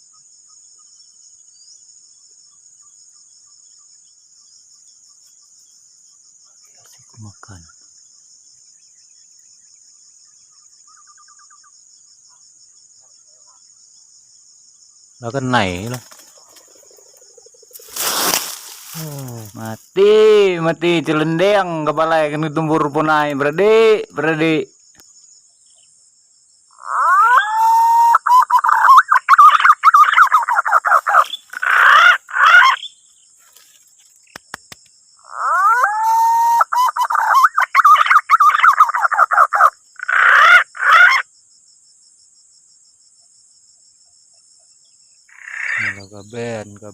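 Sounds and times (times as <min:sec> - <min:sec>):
high-pitched insect chorus: 0:00.0 - 0:46.9.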